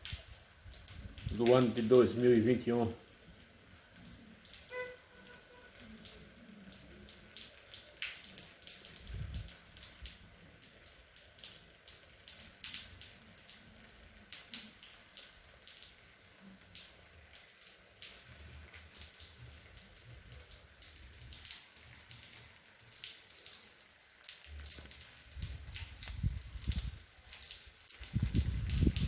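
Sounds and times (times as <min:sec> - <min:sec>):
light rain falling: 0:00.0 - 0:29.0
raindrops dripping close by: 0:00.0 - 0:29.0.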